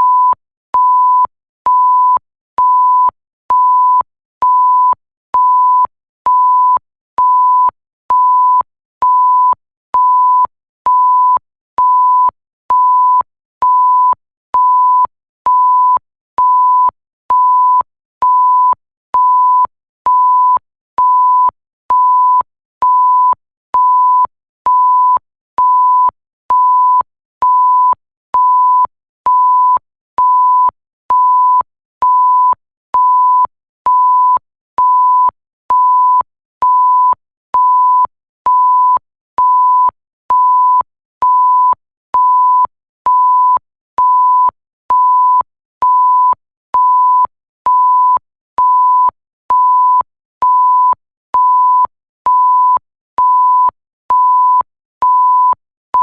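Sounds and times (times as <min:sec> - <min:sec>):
censor bleep tone: 0:00.0 - 0:56.0.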